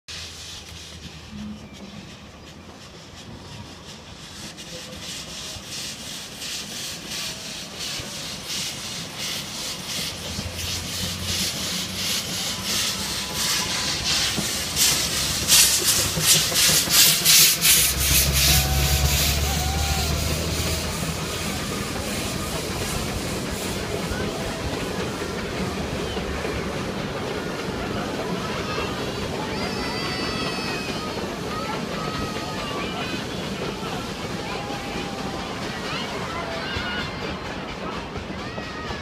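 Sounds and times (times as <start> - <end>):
steam locomotive chuffing: 0.1 - 39.0.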